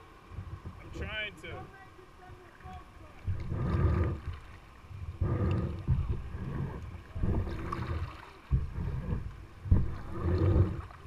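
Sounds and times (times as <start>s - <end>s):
paddle strokes in water: 0.0s - 11.0s
water washing along hull: 0.0s - 11.0s.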